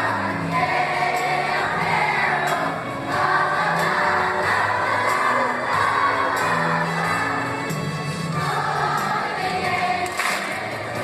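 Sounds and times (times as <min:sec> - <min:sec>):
choir singing: 0:00.0 - 0:11.0
instrumental accompaniment: 0:00.0 - 0:11.0.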